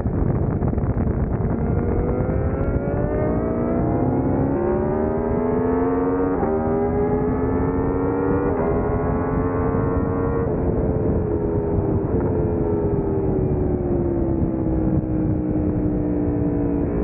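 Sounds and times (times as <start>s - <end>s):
motorcycle engine accelerating hard: 0.0s - 17.0s.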